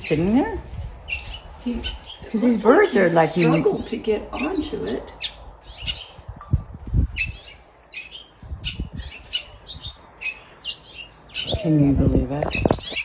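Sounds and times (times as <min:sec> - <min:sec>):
songbirds chirping alarm calls: 0:00.0 - 0:13.0.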